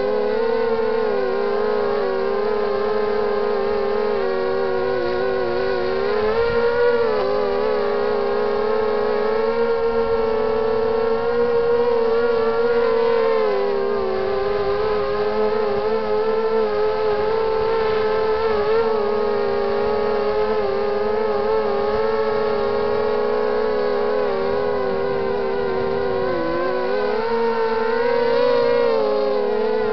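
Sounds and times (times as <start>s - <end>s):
quadcopter motors whining: 0.0s - 29.9s.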